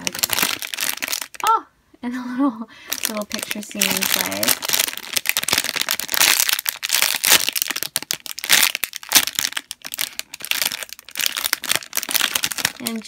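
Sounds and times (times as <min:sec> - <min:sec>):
plastic bag crinkling: 0:00.0 - 0:01.5, 0:02.8 - 0:13.0.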